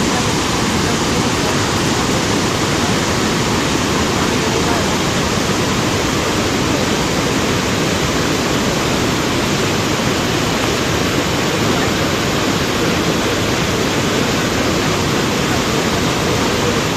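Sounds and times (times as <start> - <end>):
floodwater rushing loudly: 0.0 - 16.9.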